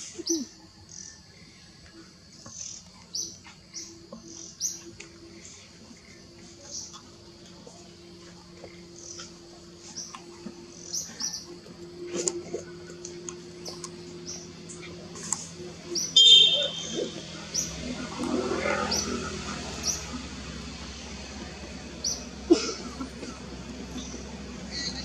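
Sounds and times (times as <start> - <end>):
small birds chirping: 0.0 - 22.5, 23.2 - 25.0.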